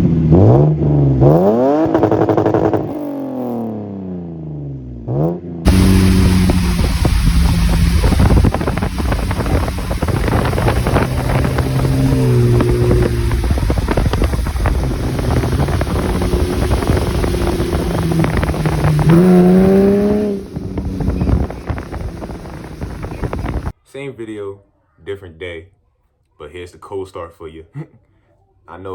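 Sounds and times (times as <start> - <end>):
loud car exhaust drone: 0.0 - 23.7.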